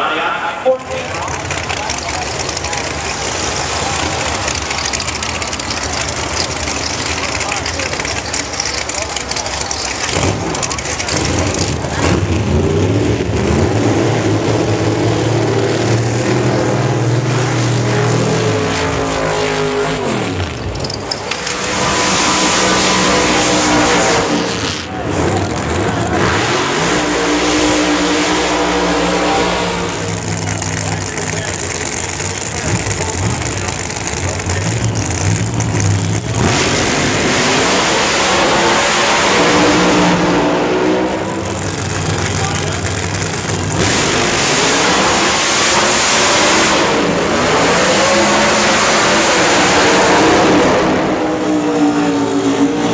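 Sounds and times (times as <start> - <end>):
racing car engines: 0.0 - 52.9.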